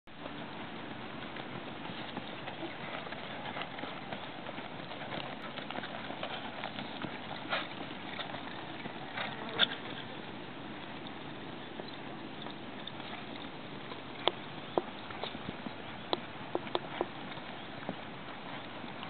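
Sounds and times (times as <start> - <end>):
hooves cantering on dirt: 0.1 - 19.0.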